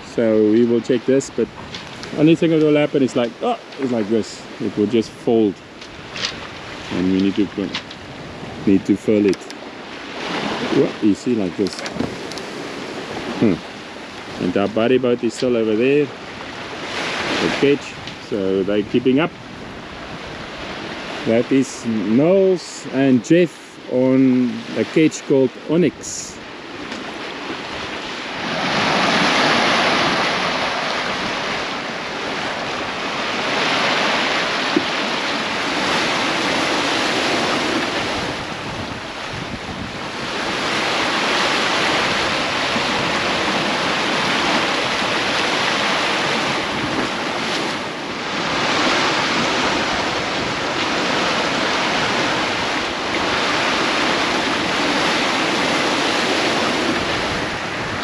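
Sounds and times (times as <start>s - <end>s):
wind buffeting microphone: 0.0s - 22.5s, 26.4s - 58.0s
water rushing past boat hulls: 0.0s - 58.0s.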